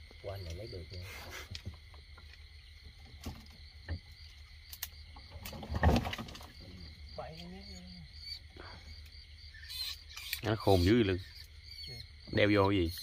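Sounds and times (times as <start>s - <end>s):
crickets calling: 0.0s - 13.0s.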